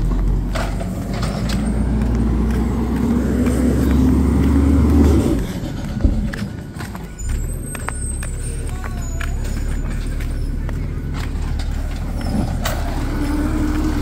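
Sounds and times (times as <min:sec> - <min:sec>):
garbage truck engine running: 0:00.0 - 0:08.7, 0:09.3 - 0:14.0.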